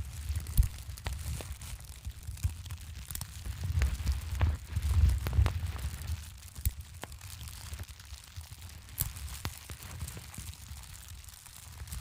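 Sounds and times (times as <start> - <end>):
fire pops and snaps: 0.0 - 12.0
wood fire crackling: 0.0 - 12.0.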